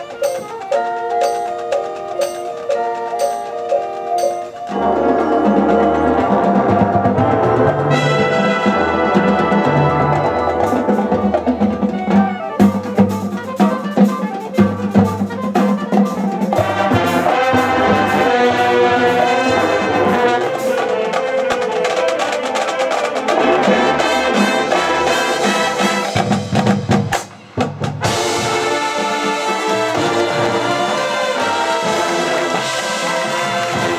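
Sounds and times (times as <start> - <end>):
marching band playing: 0.0 - 33.9.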